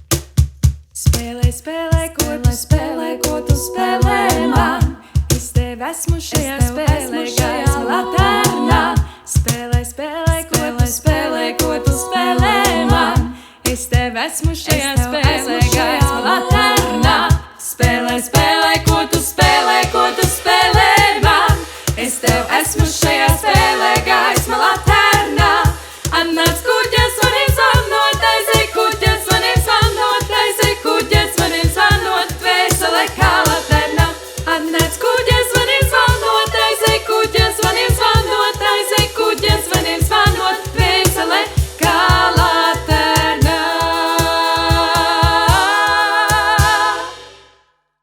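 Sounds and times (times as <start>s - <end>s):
quick steady low beat: 0.0s - 47.2s
women singing a cappella harmony: 1.0s - 47.6s.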